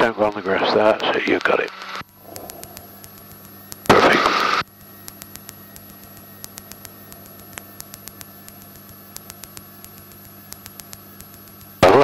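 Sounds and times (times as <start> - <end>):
intercom electrical hum and hiss: 0.0 - 12.0
static crackling clicks: 0.0 - 12.0.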